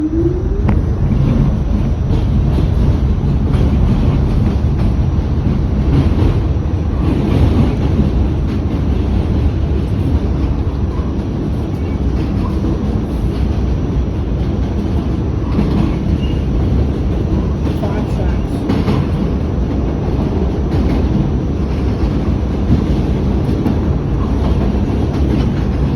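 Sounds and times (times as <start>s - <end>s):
subway train wheels rumbling on rails: 0.0s - 25.9s.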